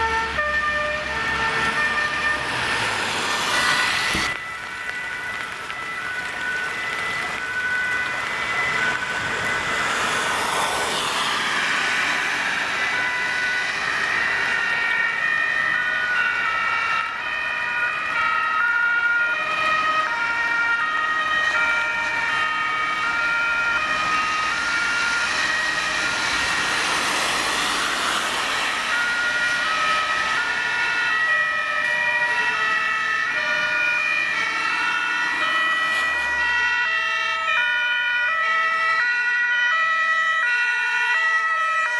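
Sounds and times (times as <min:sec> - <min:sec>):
rush of passing vehicles: 0:00.0 - 0:41.9
two-tone sirens: 0:00.0 - 0:41.9.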